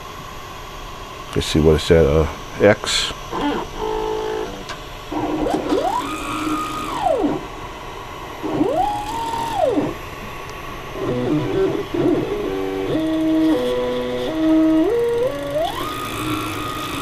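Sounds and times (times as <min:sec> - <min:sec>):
stepper motor whining: 0:03.2 - 0:17.0.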